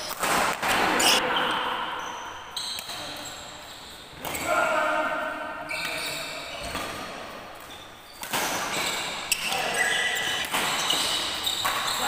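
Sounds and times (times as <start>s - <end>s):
sneakers squeaking on court floor: 1.0s - 4.7s, 5.6s - 12.0s.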